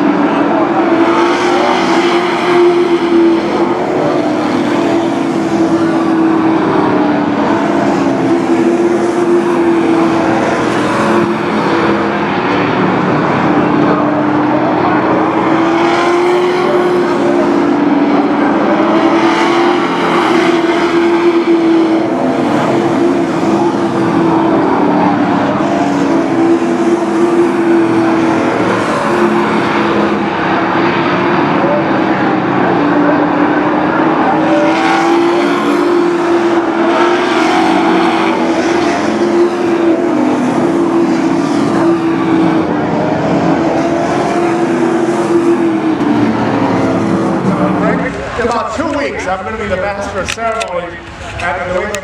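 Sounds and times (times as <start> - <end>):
race truck engines: 0.0 - 52.0.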